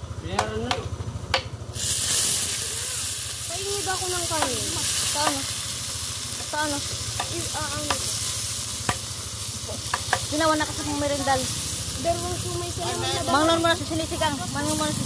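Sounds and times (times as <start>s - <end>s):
chicken sizzling in a wok: 1.6s - 15.0s.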